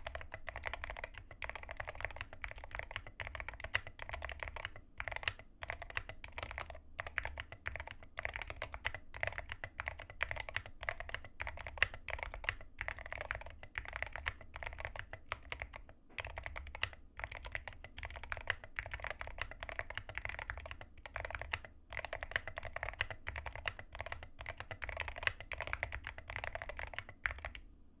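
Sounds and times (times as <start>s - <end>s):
typing on mechanical keyboard: 0.0s - 27.6s.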